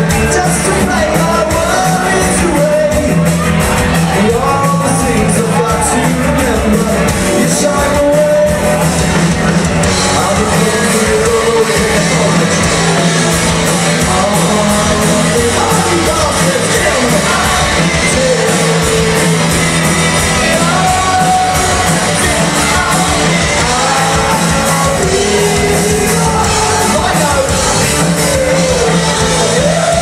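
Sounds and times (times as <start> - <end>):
live rock band playing: 0.0 - 30.0
person singing: 0.0 - 30.0.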